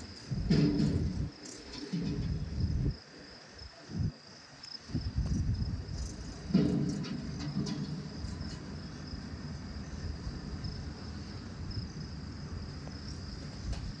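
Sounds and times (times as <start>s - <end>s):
crickets chirping: 0.0s - 14.0s
low rumbling background noise: 0.0s - 14.0s.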